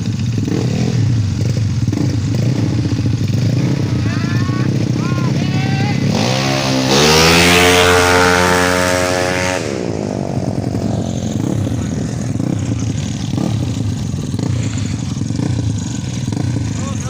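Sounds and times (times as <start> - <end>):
scooter engine accelerating: 0.0 - 17.0.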